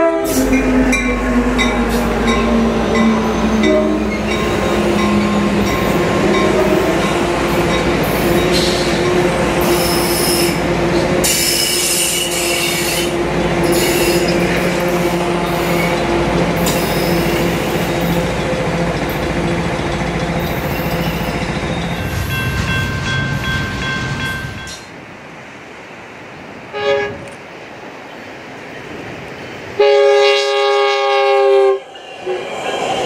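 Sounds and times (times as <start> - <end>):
train cars rolling past: 0.0 - 33.0.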